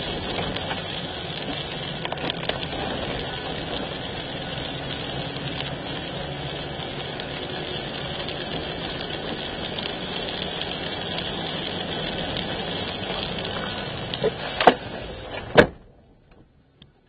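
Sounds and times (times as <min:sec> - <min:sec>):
small ticks: 0:00.0 - 0:14.7
car driving on wet road: 0:00.0 - 0:17.0.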